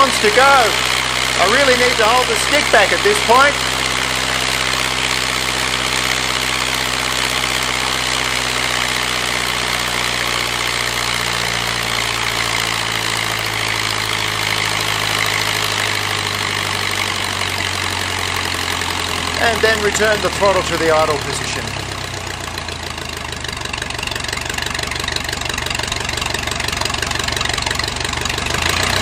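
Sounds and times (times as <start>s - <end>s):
propeller plane engine at full throttle: 0.0s - 29.0s.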